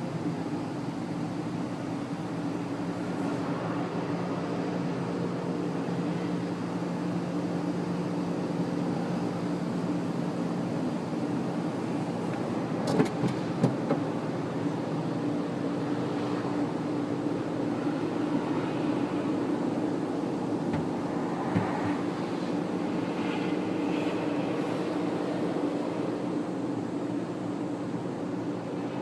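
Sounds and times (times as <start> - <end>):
car wash machinery humming: 0.0 - 29.0.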